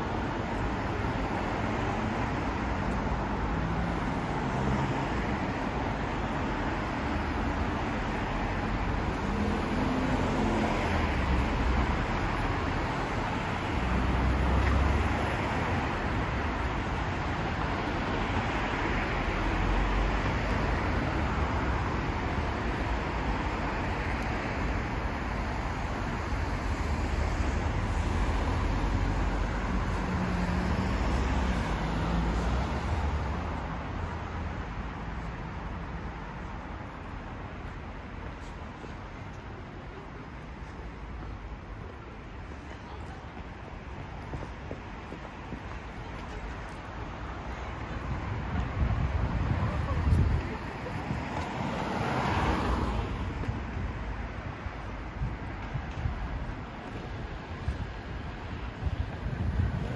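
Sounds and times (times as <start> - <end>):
cars passing: 0.0 - 59.9
street noise: 0.0 - 59.9.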